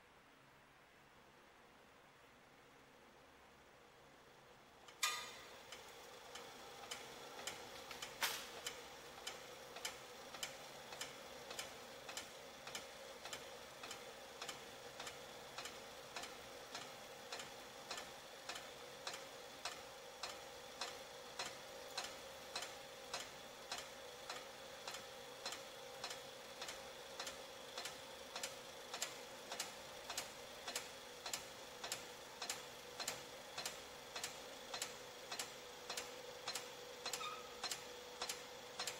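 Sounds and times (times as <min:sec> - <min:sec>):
motor humming: 0:04.9 - 0:38.9
regular mechanical tick: 0:04.9 - 0:38.9.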